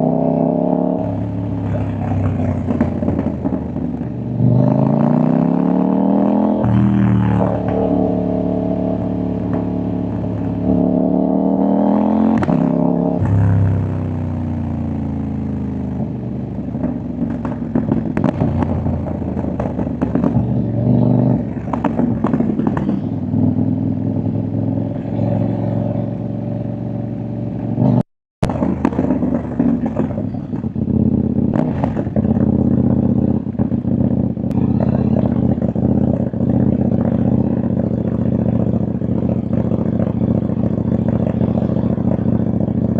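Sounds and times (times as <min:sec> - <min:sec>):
motorcycle engine revving: 0:00.0 - 0:42.9
exhaust pops and crackles: 0:01.0 - 0:05.5, 0:06.5 - 0:08.4, 0:09.0 - 0:11.1, 0:12.0 - 0:25.2, 0:27.8 - 0:42.9.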